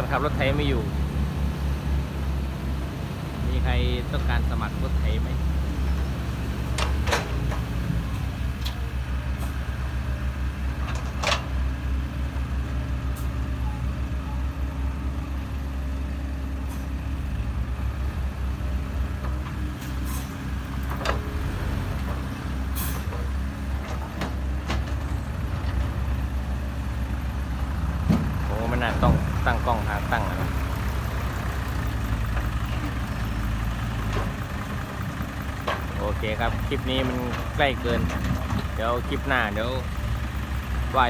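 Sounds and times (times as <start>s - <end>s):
heavy diesel engines running: 0.0s - 41.0s.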